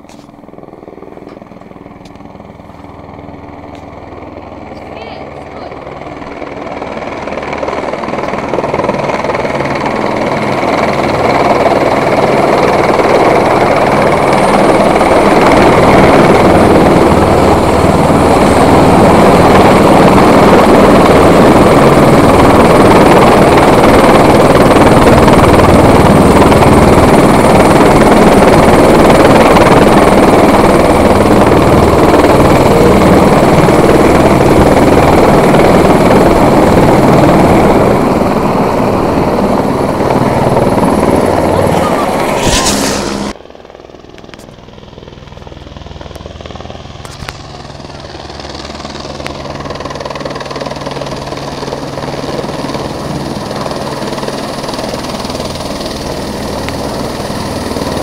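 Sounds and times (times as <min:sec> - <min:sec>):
helicopter hovering close: 0:00.0 - 0:58.0.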